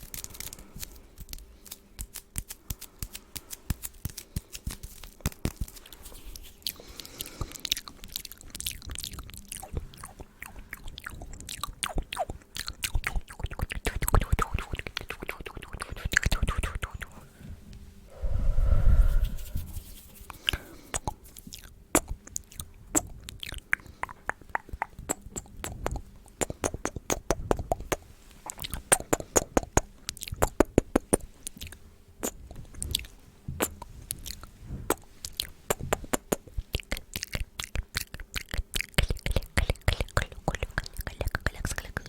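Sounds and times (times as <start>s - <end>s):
wet tongue and lip clicks: 0.0s - 17.2s, 20.4s - 42.0s.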